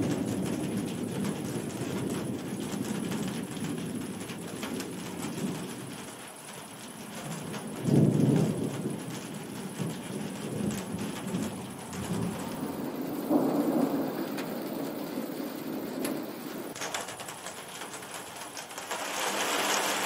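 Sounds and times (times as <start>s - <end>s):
thunder rolling: 0.0s - 16.8s
steady rain: 0.0s - 20.0s.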